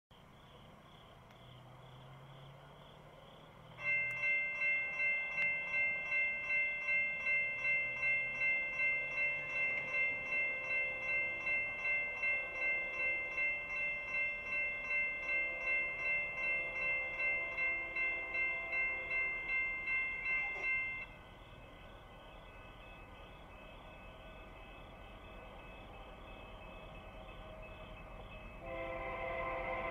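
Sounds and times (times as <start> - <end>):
railroad crossing bell ringing: 3.3 - 29.9.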